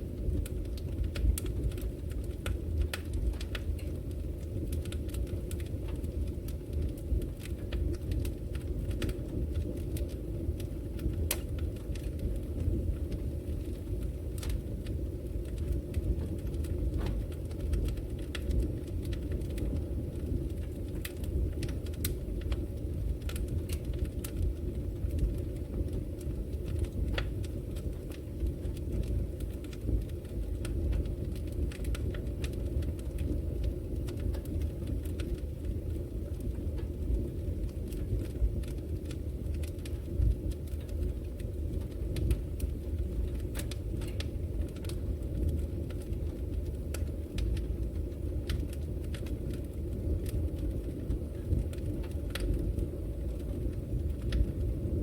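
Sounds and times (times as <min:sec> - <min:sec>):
fire burning in fireplace: 0:00.0 - 0:55.0
wood crackling and popping: 0:00.0 - 0:55.0.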